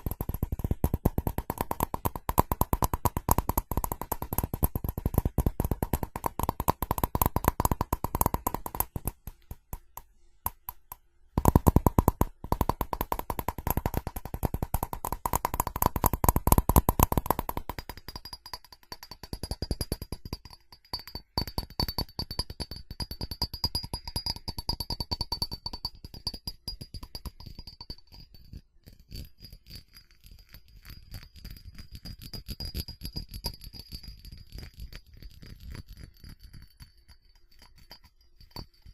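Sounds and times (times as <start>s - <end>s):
ceramic ringing: 0.0s - 38.9s
fast tapping on ceramic: 0.0s - 38.9s.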